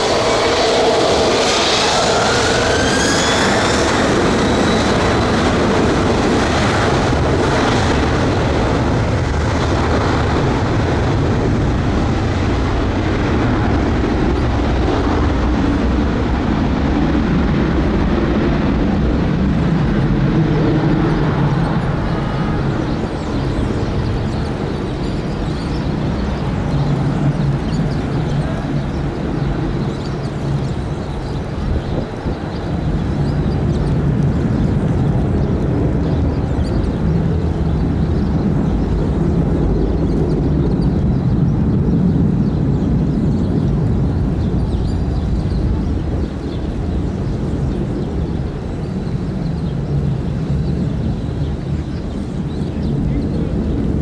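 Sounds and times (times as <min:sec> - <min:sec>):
high turbine whine: 0:00.0 - 0:54.0
jet engines roaring: 0:00.0 - 0:54.0.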